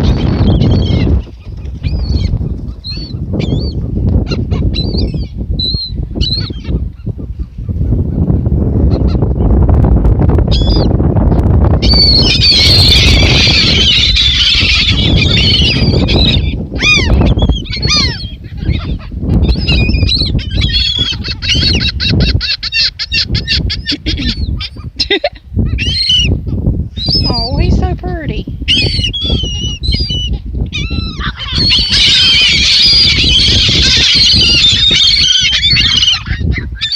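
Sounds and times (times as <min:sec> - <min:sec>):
flock of birds calling: 0:00.0 - 0:09.6, 0:10.5 - 0:11.0, 0:11.8 - 0:26.4, 0:27.0 - 0:27.7, 0:28.7 - 0:36.9.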